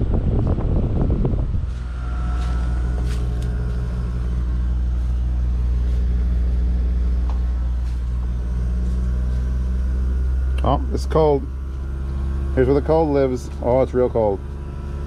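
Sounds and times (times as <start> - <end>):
heat pump unit humming: 0.0 - 15.0.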